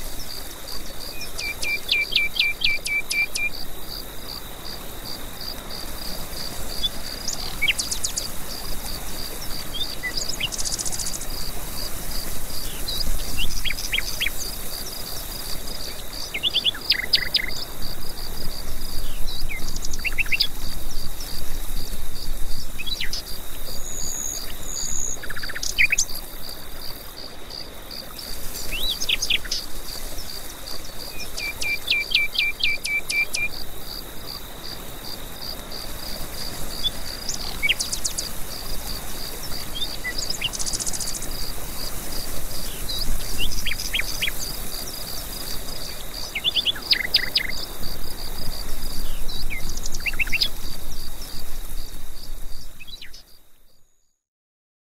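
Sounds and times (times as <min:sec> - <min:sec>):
insects chirping: 0:00.0 - 0:54.1.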